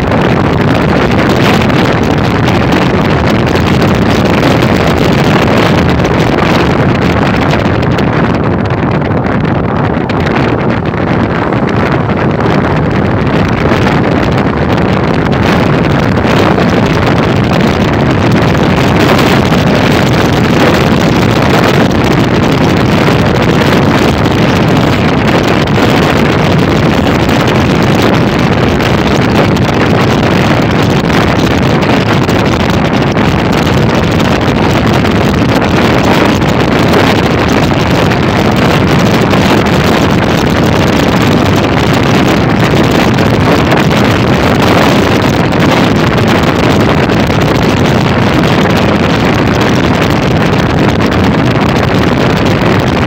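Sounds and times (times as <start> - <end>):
motorcycle engine running: 0.0 - 53.0
wind rushing over microphone: 0.0 - 53.0.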